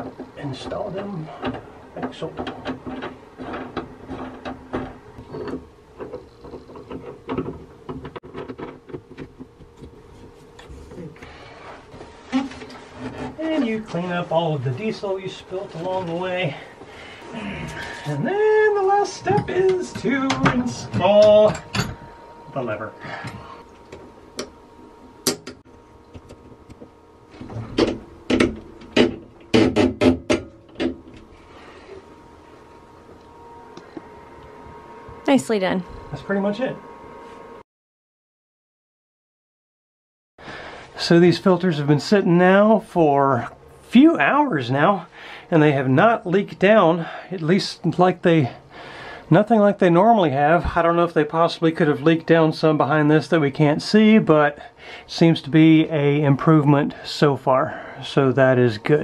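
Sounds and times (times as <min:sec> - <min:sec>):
steady low hum: 0:00.0 - 0:37.6, 0:40.4 - 0:59.0.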